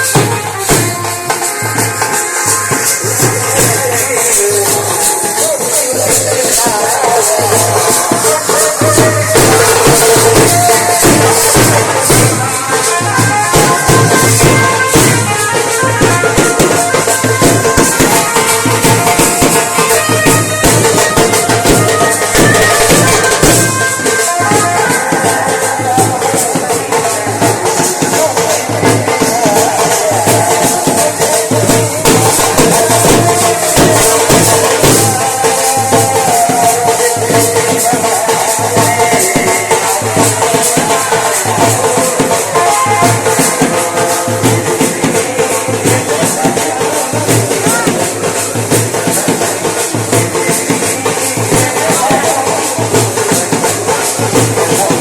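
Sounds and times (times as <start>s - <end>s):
wind instrument melody: 0.0s - 51.1s
drums beating: 0.0s - 55.0s
rattling cymbal-like percussion: 0.0s - 55.0s
wedding band playing loudly: 0.0s - 55.0s.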